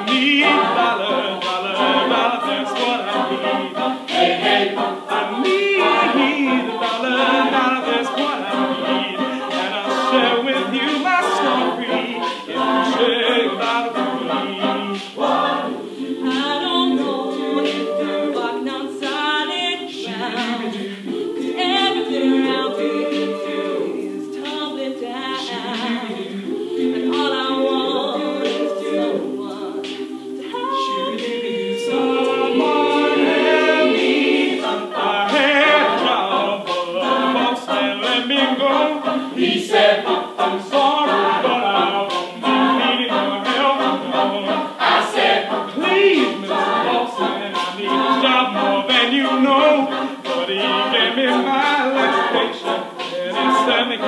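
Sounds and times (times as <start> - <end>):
choir singing harmony: 0.0 - 54.0
vocal percussion ticks: 0.0 - 54.0.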